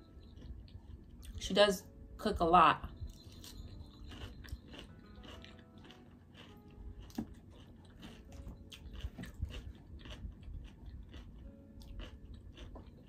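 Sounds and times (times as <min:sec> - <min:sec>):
chewing and crunching salad: 0:00.0 - 0:01.4, 0:03.0 - 0:13.0.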